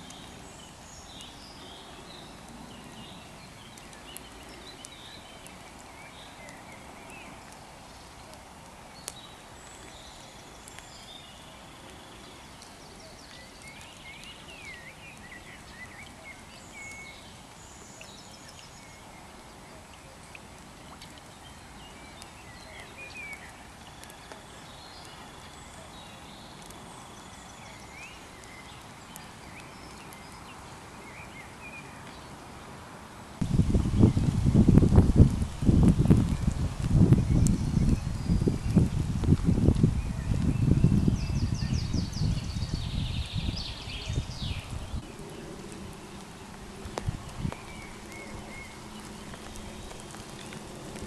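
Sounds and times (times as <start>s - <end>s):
songbirds singing: 0.0s - 32.8s, 33.4s - 51.0s
faint steady hiss: 0.0s - 51.0s.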